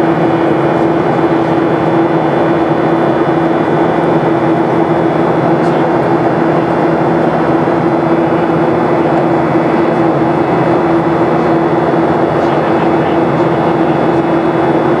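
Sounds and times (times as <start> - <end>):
jet engine drone and airflow: 0.0 - 15.0
steady low hum: 0.0 - 15.0.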